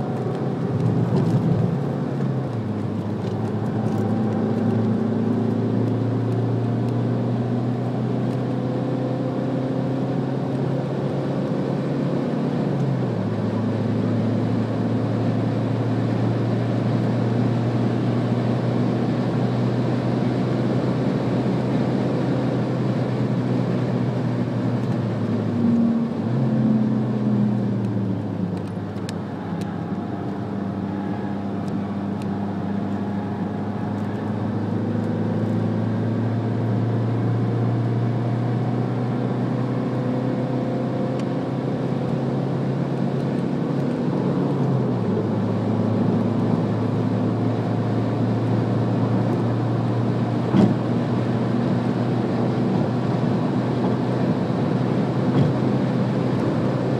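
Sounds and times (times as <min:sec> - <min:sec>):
car engine running: 0:00.0 - 0:09.3, 0:10.0 - 0:56.9
tyre and road noise: 0:00.0 - 0:09.5, 0:10.5 - 0:56.9.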